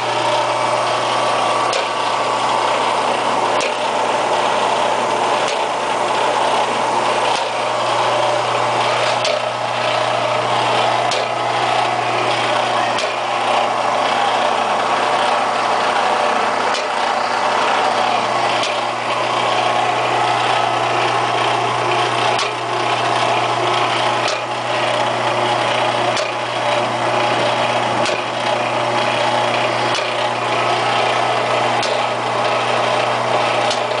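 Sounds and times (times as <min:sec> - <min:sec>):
regular machine beat: 0:00.0 - 0:34.0
test bench machine humming: 0:00.0 - 0:34.0.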